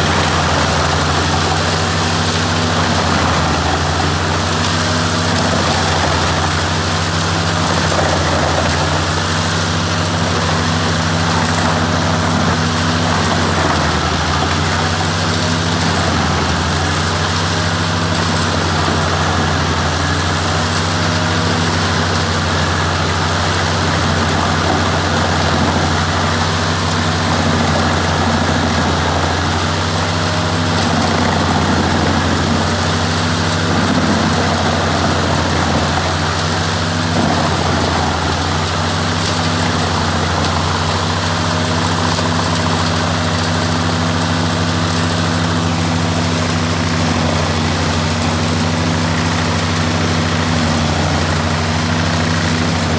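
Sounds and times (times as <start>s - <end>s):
tractor diesel engine running: 0.0s - 52.9s
wood chipper running: 0.0s - 52.9s.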